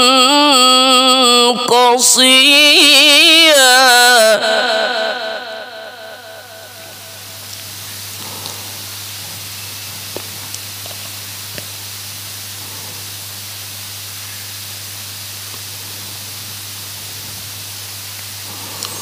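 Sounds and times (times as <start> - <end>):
low electrical hum: 0.0 - 19.0
microphone hiss: 0.0 - 19.0.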